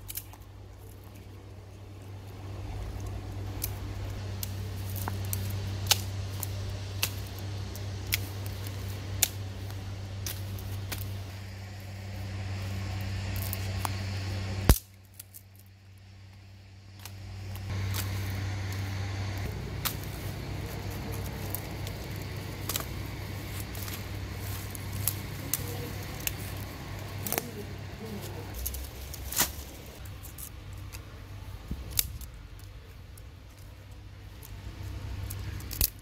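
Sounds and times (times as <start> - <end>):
low steady hum: 0.0 - 36.0
twigs cracking and snapping: 0.0 - 36.0.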